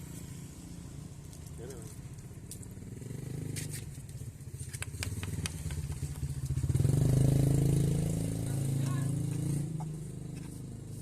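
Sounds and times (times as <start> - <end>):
scooter engine running: 1.8 - 11.0.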